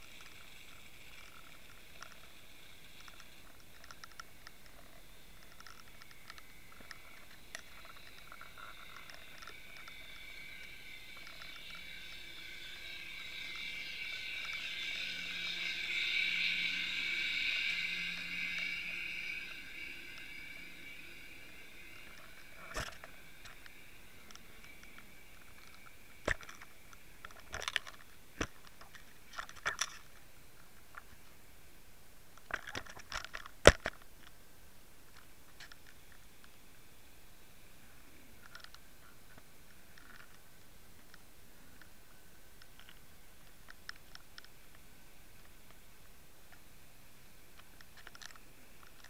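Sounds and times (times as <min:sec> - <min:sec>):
underwater ticking and crackling: 0:00.0 - 0:31.4, 0:32.3 - 0:34.4, 0:38.3 - 0:49.0
high whine and hiss: 0:00.0 - 0:49.0.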